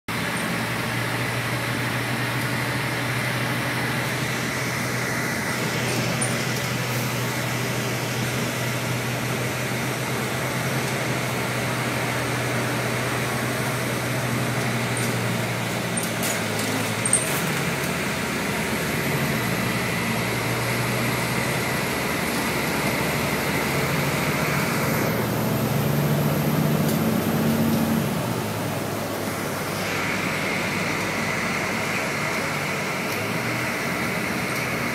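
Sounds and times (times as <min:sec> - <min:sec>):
road and tyre noise: 0:00.1 - 0:34.9
vehicle engine hum: 0:00.1 - 0:34.9.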